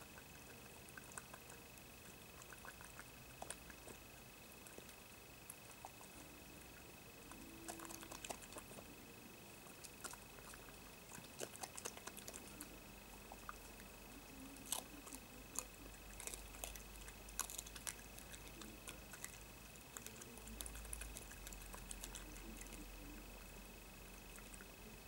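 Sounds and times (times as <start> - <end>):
badger crunching and chewing: 0.1 - 8.9, 9.6 - 23.5.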